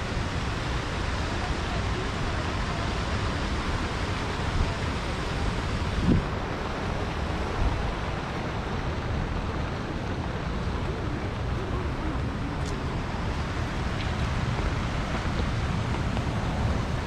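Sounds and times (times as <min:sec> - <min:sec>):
steady outdoor hiss: 0:00.0 - 0:17.0
wind buffeting microphone: 0:00.0 - 0:17.0.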